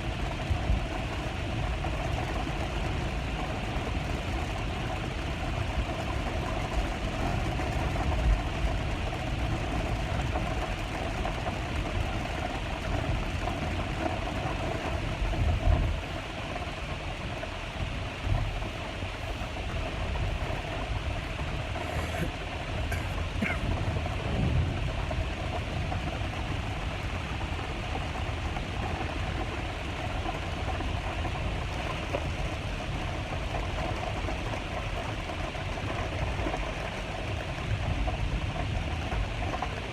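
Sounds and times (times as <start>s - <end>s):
continuous low rumble: 0.0s - 39.9s
rain falling: 0.0s - 39.9s.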